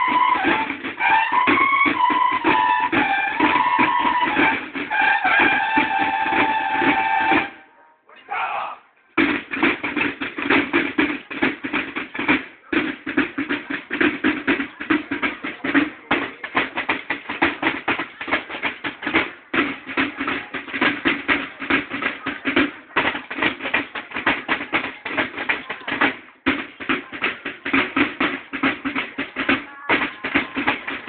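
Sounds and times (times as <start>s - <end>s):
rolling snare drum cadence: 0.0s - 7.6s, 9.2s - 31.0s.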